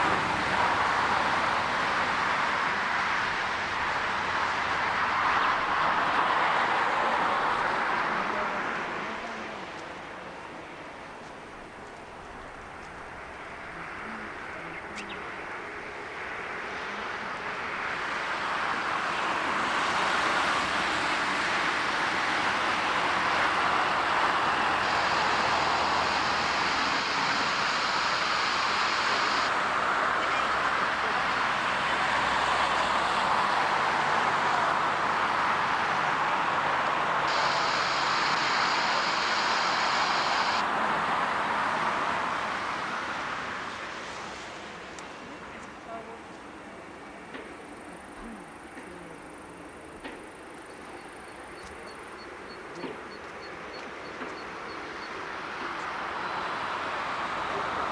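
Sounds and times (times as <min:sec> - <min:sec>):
jet airliner engines roaring: 0:00.0 - 0:57.9.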